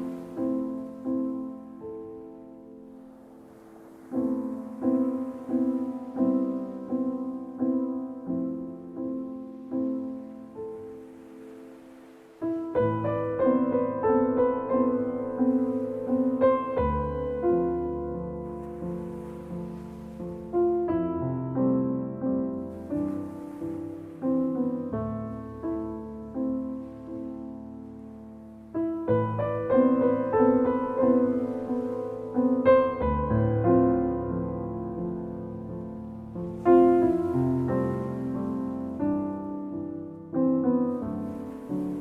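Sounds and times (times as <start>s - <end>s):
slow solo piano: 0.0s - 42.0s.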